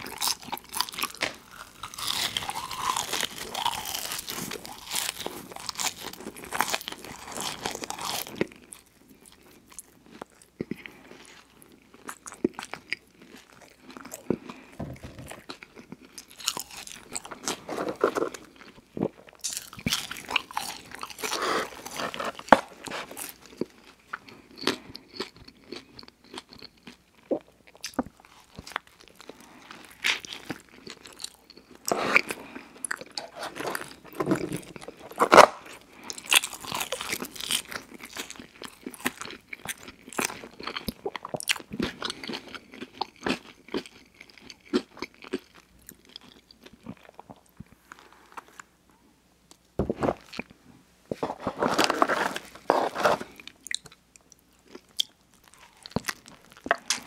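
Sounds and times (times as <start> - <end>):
person chewing and crunching food: 0.0 - 48.8, 49.5 - 57.0.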